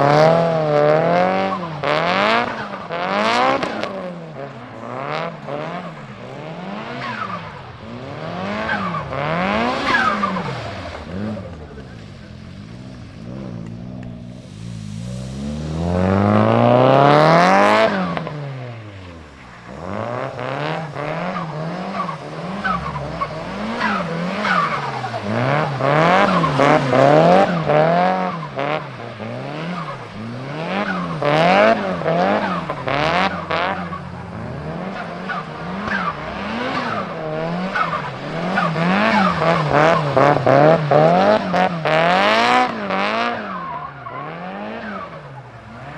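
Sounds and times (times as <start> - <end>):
car engine revving hard: 0.0 - 45.9.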